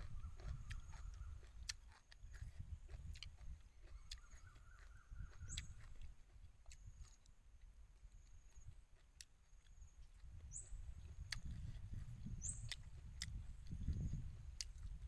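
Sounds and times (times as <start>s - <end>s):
wind rumble on microphone: 0.0s - 7.2s, 9.7s - 15.0s
chewing and mouth smacks: 0.0s - 15.0s.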